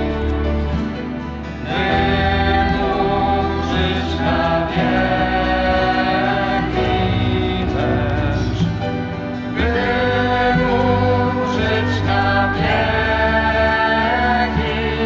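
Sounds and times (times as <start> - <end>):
sustained accompaniment: 0.0 - 15.0
voices singing worship song: 0.0 - 15.0.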